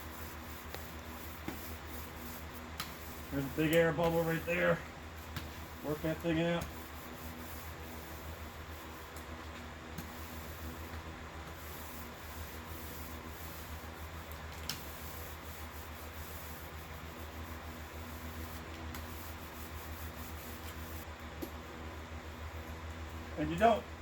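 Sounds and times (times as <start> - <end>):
foam roller rubbing on wet cloth: 0.0 - 9.2, 10.0 - 21.0
steady low hum: 0.0 - 24.0.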